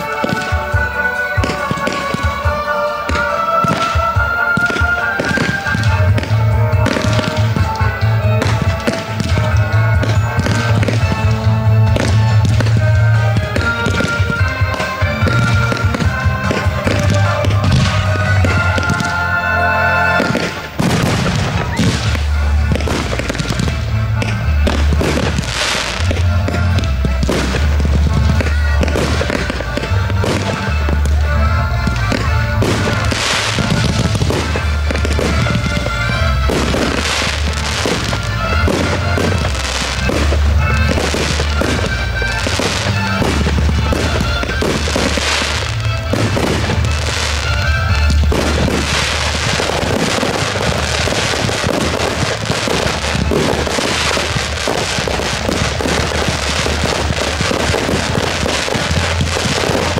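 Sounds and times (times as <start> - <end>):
fireworks bursting and crackling: 0.0 - 59.9
music with strong bass: 0.0 - 59.9.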